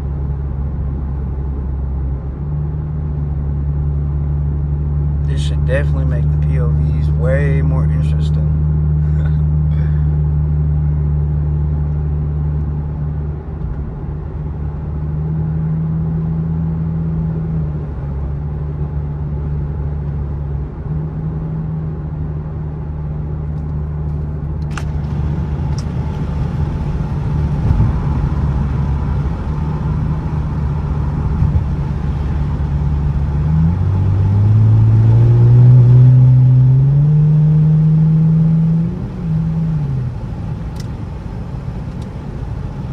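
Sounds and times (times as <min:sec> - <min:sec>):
car engine and exhaust droning: 0:00.0 - 0:42.9.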